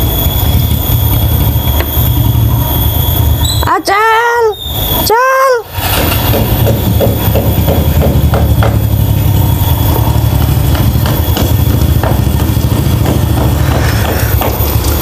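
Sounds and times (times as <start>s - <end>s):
engine idling: 0.0s - 4.0s, 5.7s - 15.0s.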